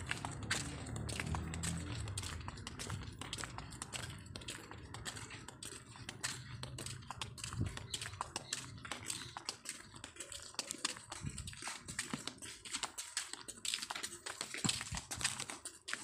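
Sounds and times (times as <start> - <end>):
sandal footsteps on concrete: 0.0 - 16.0.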